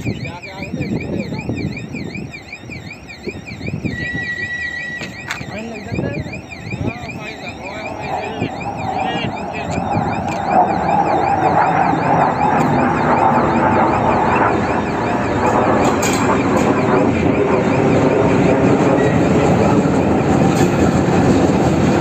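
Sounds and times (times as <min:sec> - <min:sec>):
diesel locomotive running: 0:00.0 - 0:22.0
warbling electronic alarm: 0:00.0 - 0:22.0.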